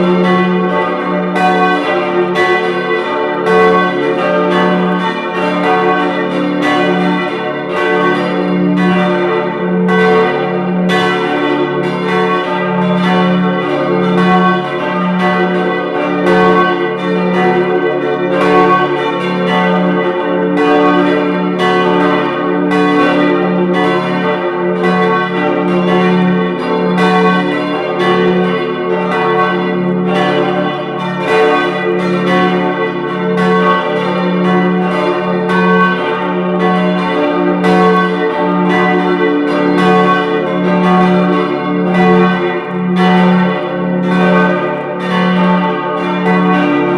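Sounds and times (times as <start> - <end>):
swinging church bells pealing: 0.0 - 46.9.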